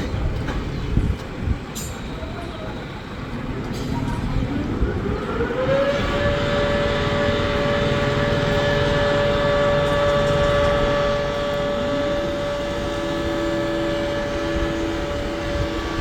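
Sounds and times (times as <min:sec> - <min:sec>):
machinery motor whine: 0:00.0 - 0:16.0.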